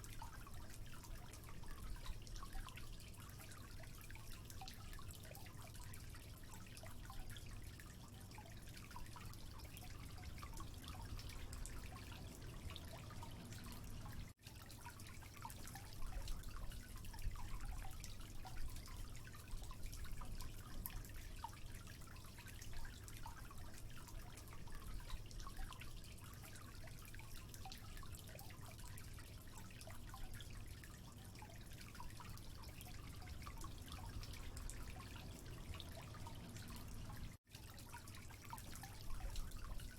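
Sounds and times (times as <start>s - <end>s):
water dripping: 0.0s - 39.9s.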